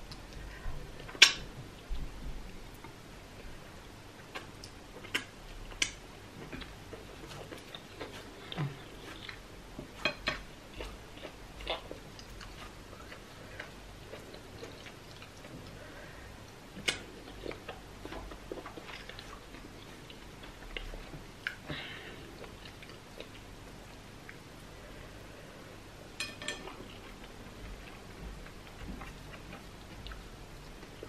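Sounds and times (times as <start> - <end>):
quiet chewing: 2.7 - 25.7, 26.5 - 31.0.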